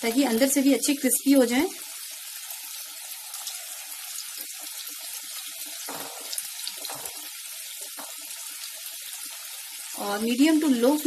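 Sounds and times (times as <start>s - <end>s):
deep-frying in hot oil sizzling: 0.0s - 11.0s.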